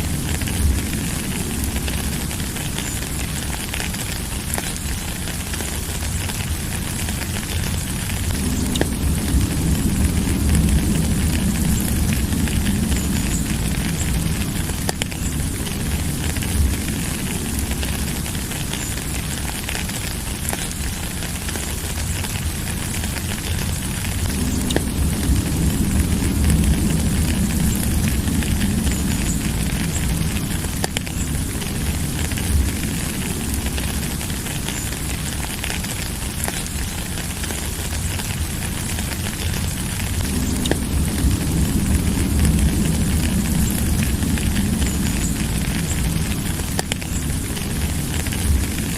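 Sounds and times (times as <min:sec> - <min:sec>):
deep low rumble: 0:00.0 - 0:48.9
sharp ticks of raindrops: 0:00.0 - 0:48.9
steady rain hiss: 0:00.0 - 0:48.9.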